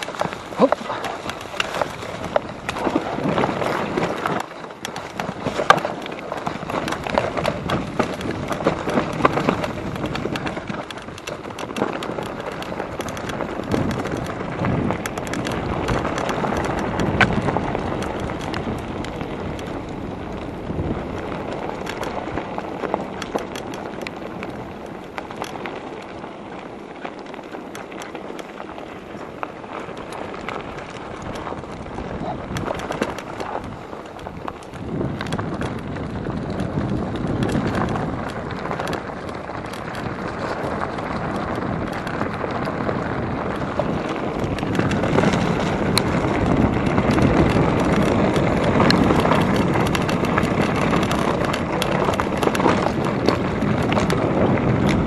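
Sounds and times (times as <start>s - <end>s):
bike rattling and knocking: 0.0s - 55.0s
tyres on dirt and stones: 0.0s - 55.0s.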